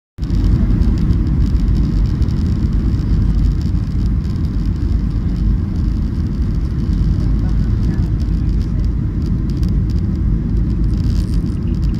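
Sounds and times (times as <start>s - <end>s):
airliner engines rumbling: 0.2s - 11.9s.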